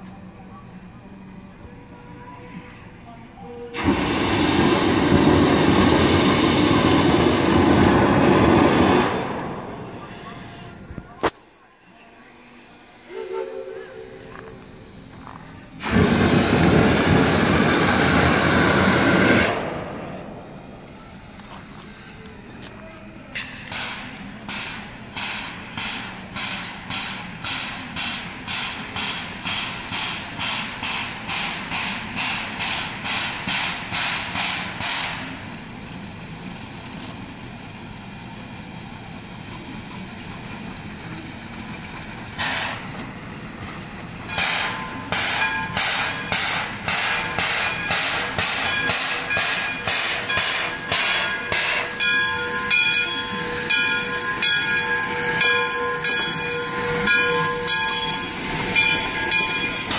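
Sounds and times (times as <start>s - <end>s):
steady high-pitched tones: 0.0s - 33.0s, 34.6s - 59.9s
steam locomotive chuffing: 2.5s - 11.2s, 12.8s - 59.9s.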